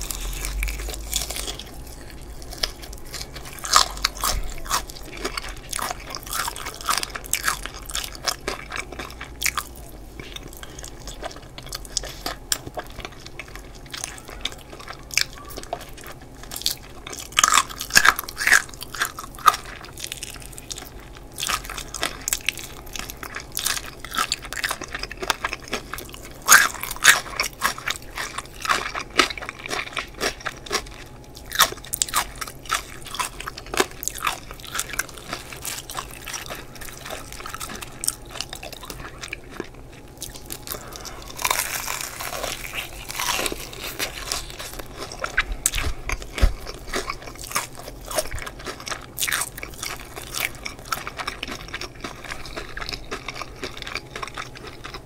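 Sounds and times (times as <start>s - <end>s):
chewing crispy fried chicken: 0.0s - 55.0s.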